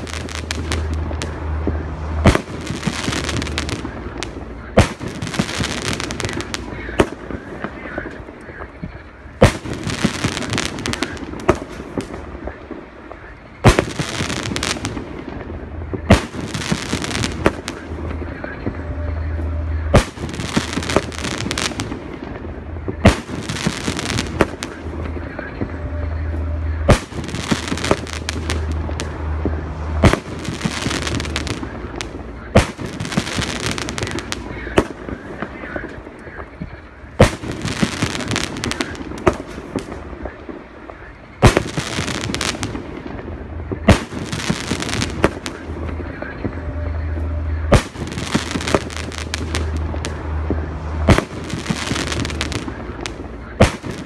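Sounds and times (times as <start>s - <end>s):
crackling and hissing stars: 0.0s - 54.0s.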